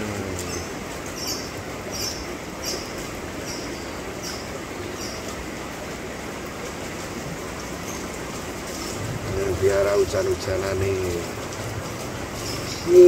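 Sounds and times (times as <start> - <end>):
rain hiss: 0.0 - 13.0.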